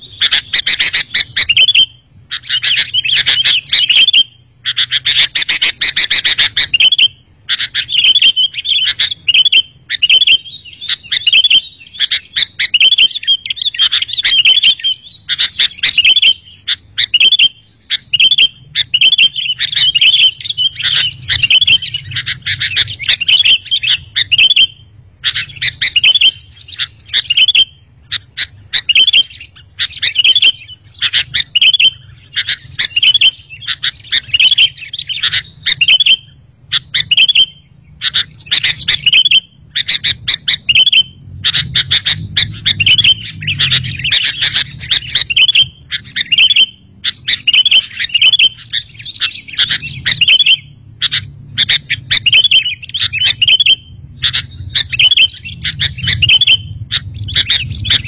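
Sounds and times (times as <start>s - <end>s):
bulbul calling: 0.0s - 58.0s.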